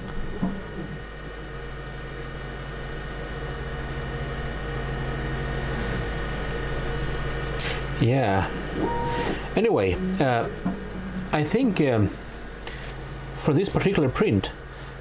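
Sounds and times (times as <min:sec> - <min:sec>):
printer stepper motors humming: 0:00.0 - 0:15.0.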